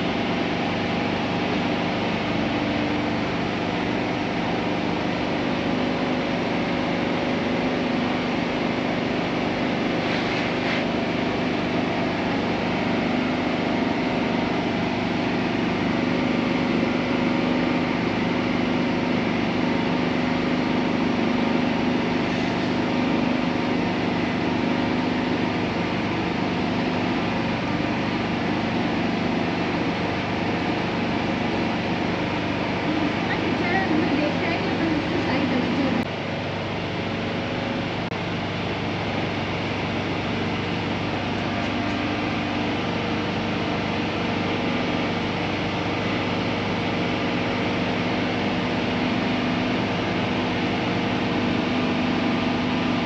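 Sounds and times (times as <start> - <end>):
engine humming: 8.8 - 53.0.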